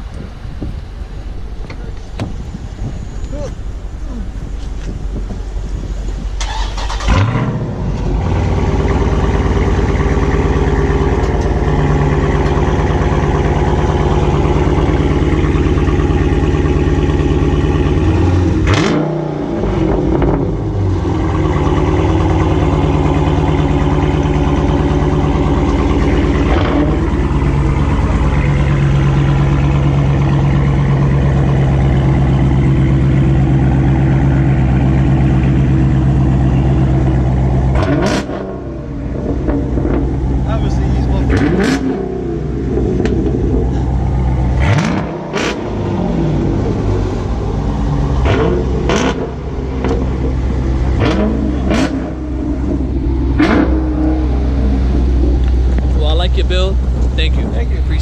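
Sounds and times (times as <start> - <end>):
loud car engine idling: 0.0 - 58.0.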